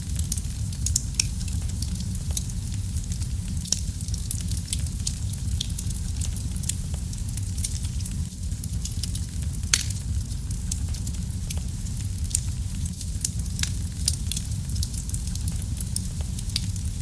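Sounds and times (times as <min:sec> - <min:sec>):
fire flames rumbling: 0:00.0 - 0:17.0
wood fire crackles and pops: 0:00.0 - 0:17.0.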